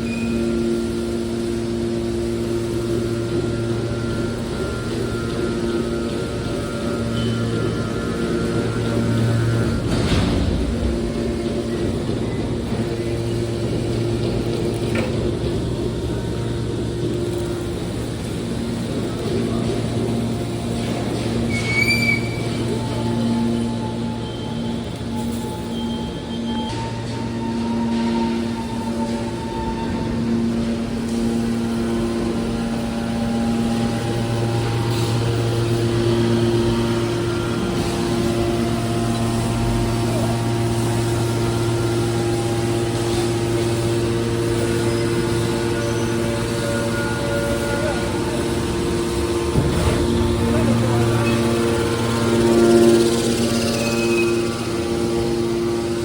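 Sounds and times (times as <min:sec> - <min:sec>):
low hydraulic hum: 0:00.0 - 0:56.0.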